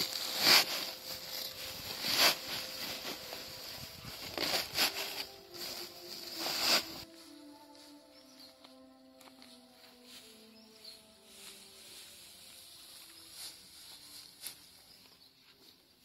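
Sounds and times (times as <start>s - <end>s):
grass rustling into a sack: 0.0s - 7.9s, 9.5s - 15.0s.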